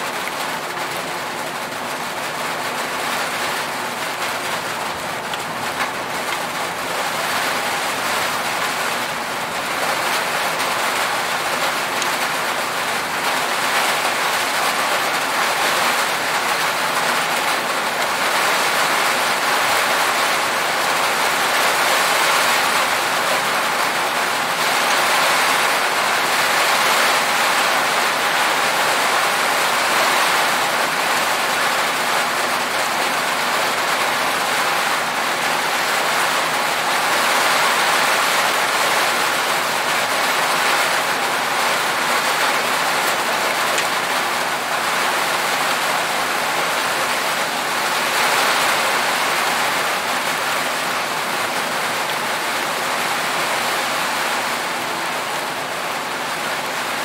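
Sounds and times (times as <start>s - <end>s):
heavy rain on metal roof: 0.0s - 57.0s.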